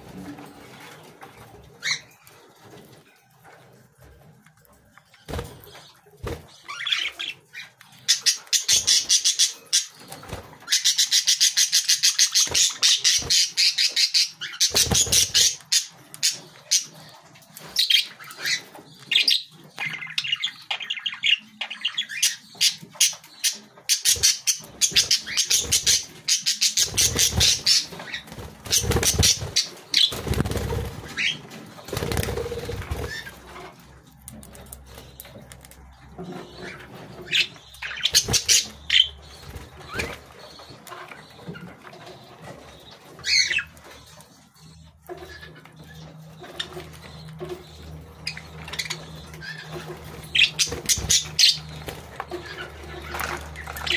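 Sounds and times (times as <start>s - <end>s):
budgerigars chattering and warbling: 5.1s - 53.9s.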